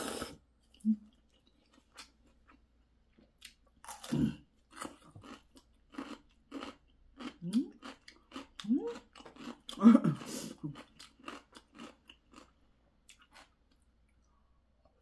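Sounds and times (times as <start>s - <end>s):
chewing noodles: 0.0s - 13.8s.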